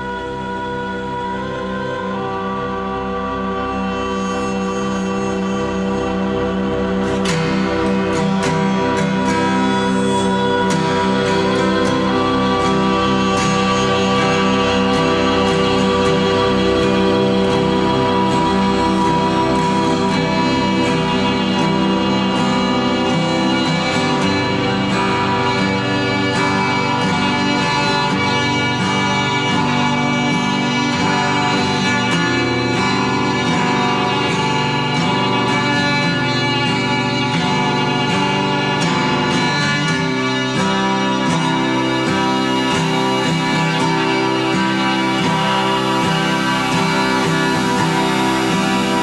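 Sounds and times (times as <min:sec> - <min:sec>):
instrumental music with sustained notes: 0:00.0 - 0:49.0.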